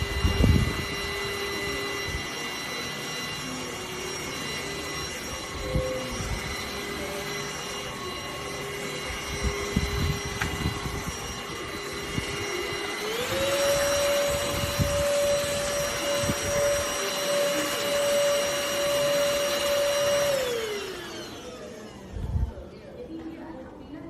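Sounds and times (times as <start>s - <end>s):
handheld vacuum cleaner whine: 0.0s - 22.8s.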